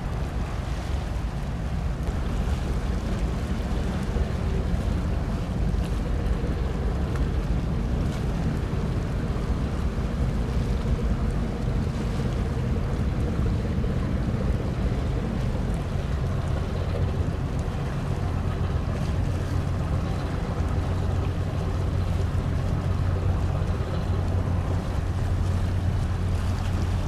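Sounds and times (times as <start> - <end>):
ship engines droning: 0.0 - 27.0
wind noise on microphone: 0.0 - 27.0.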